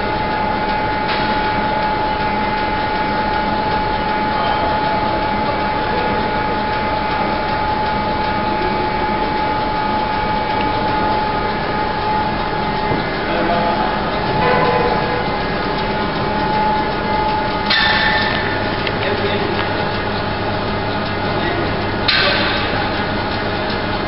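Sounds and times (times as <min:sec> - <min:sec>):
machinery drone with high whine: 0:00.0 - 0:24.0.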